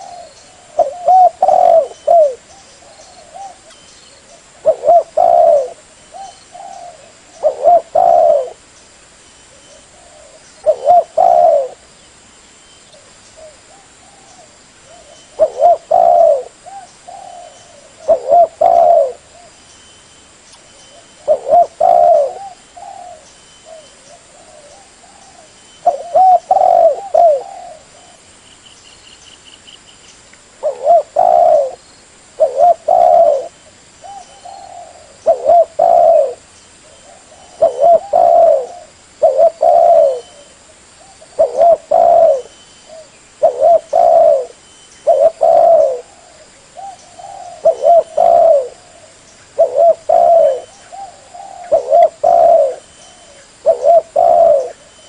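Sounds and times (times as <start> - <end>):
dove cooing: 0.0 - 8.6, 9.5 - 11.9, 13.4 - 19.6, 20.9 - 28.2, 30.6 - 31.8, 32.4 - 55.0
small bird chirping: 0.0 - 55.0.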